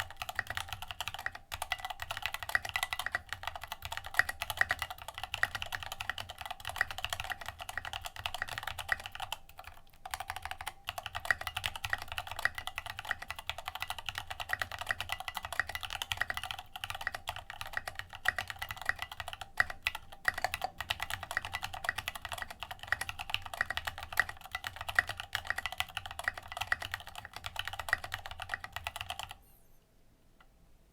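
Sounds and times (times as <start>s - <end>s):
typing on mechanical keyboard: 0.0s - 29.4s.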